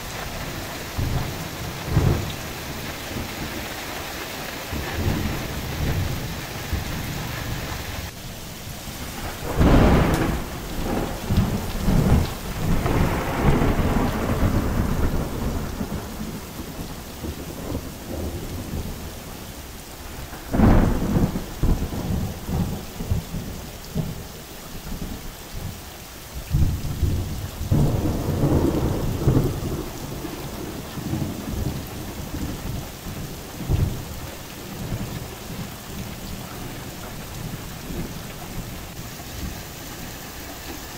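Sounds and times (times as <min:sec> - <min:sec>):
thunder claps and rumbling: 0:00.0 - 0:08.2, 0:08.8 - 0:25.8, 0:26.4 - 0:39.7
heavy rain falling: 0:00.0 - 0:40.9.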